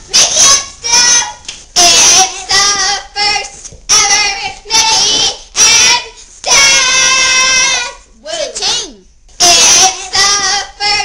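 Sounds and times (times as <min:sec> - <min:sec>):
girls singing high-pitched: 0:00.0 - 0:08.2, 0:09.4 - 0:11.0.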